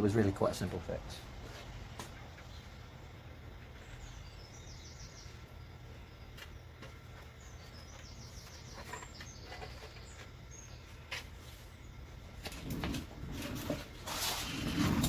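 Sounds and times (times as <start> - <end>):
bird singing: 0.0 - 13.8.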